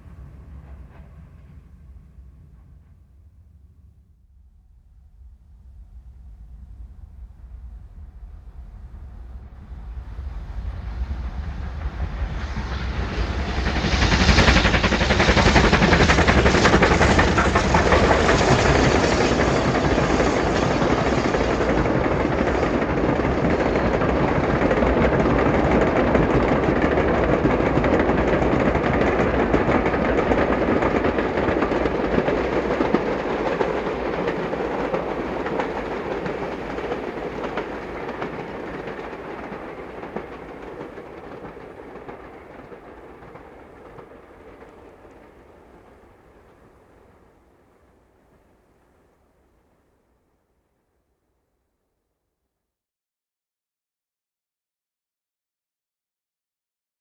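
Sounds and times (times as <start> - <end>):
steam train passing: 0.0 - 3.0, 6.1 - 49.8.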